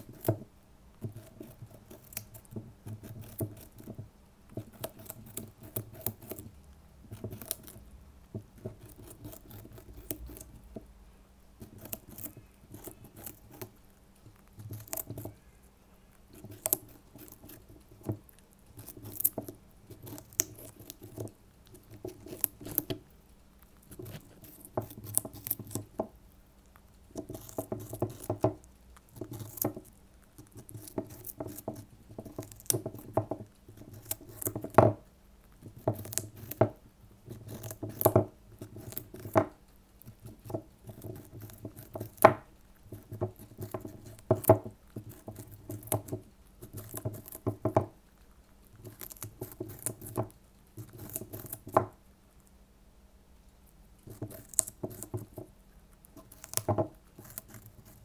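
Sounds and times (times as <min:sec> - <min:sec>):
hamster gnawing carrot: 0:00.0 - 0:52.7, 0:53.4 - 0:58.0.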